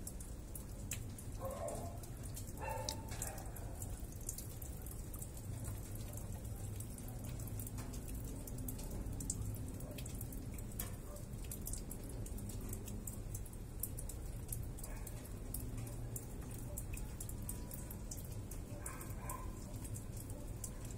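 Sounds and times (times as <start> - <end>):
rain drops ticking: 0.0 - 20.9.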